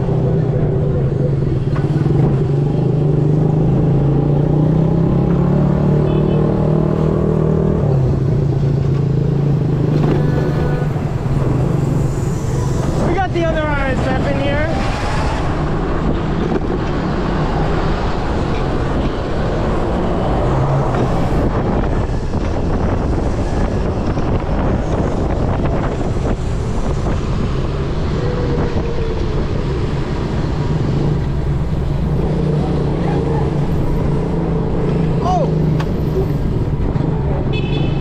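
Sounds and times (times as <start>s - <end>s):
road and traffic noise: 0.0s - 38.0s
wind rushing over microphone: 7.2s - 38.0s.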